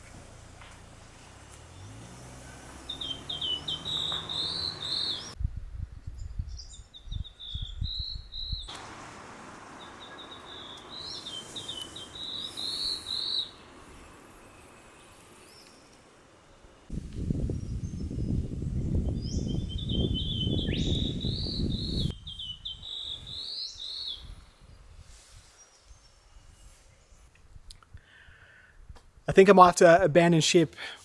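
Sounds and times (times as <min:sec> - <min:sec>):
songbird singing: 0:00.6 - 0:05.4, 0:06.1 - 0:27.4.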